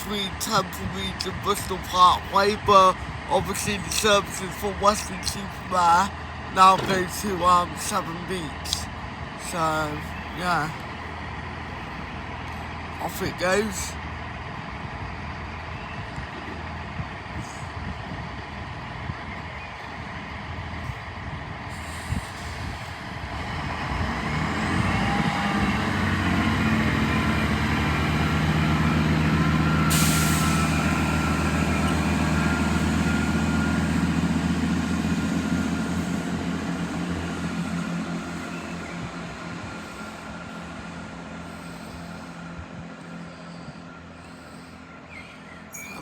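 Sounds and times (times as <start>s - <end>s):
diesel train engine: 0.0s - 46.0s.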